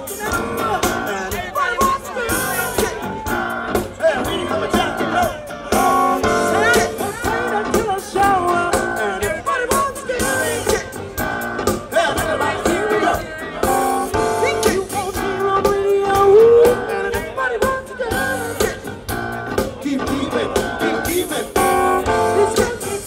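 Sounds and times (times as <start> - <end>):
live band playing: 0.0 - 23.0
person singing lead vocal: 0.0 - 23.0.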